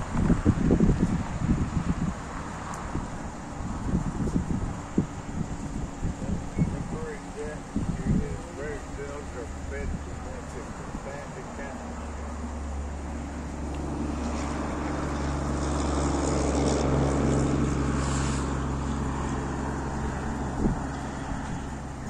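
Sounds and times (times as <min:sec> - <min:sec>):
car engine passing: 0:00.0 - 0:22.0.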